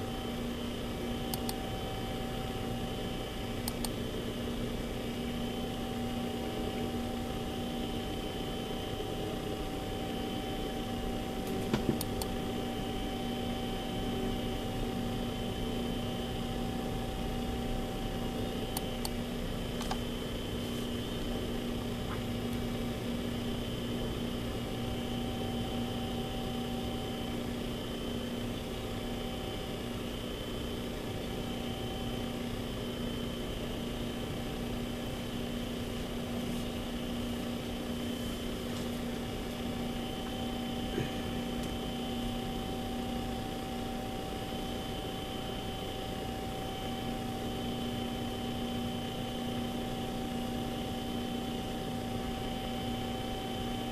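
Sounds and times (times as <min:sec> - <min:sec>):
electrical hum and hiss: 0:00.0 - 0:53.9.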